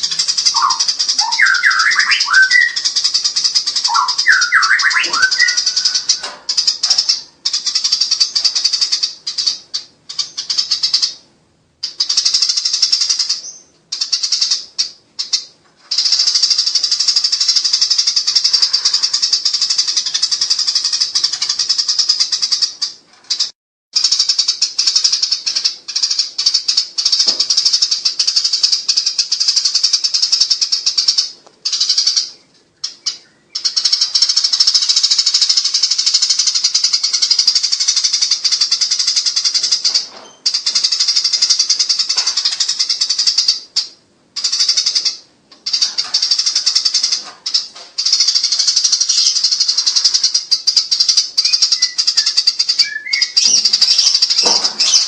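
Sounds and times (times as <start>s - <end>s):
sparrows chattering: 0.0s - 55.0s.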